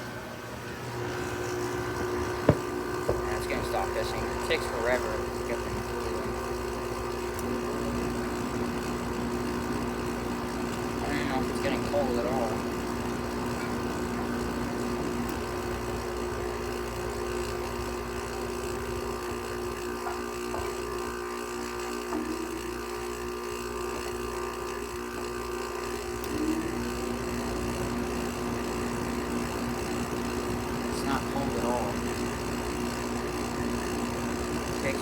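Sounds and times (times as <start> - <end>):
air conditioner humming: 0.0 - 35.0.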